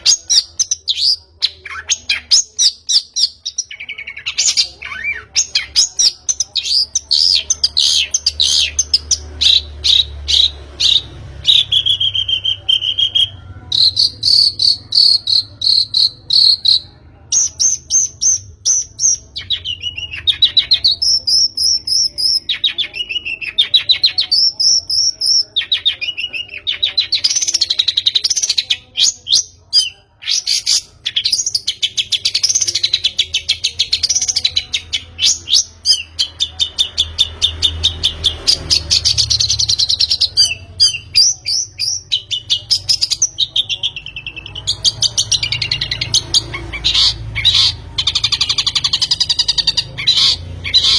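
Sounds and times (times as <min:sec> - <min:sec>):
shrike singing trilled song: 0:00.0 - 0:50.9.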